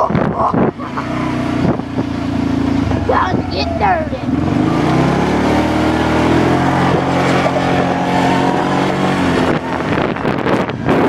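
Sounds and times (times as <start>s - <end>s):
atv engine under throttle: 0.0s - 11.0s.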